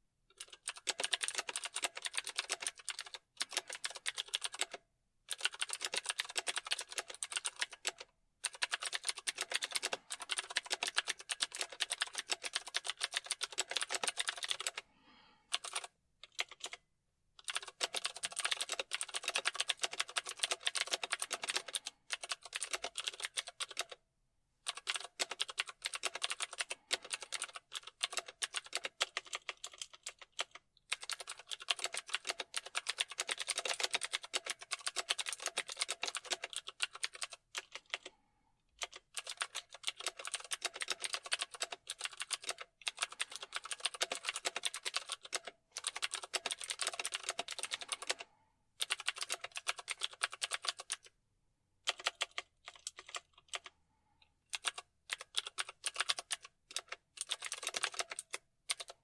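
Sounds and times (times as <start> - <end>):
fast typing on keyboard: 0.3 - 14.8, 15.5 - 16.8, 17.4 - 24.0, 24.6 - 38.2, 38.8 - 51.2, 51.8 - 53.8, 54.5 - 59.0.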